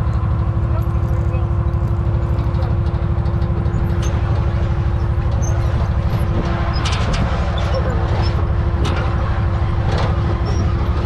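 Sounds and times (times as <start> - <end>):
utility vehicle engine pulsing: 0.0 - 11.0.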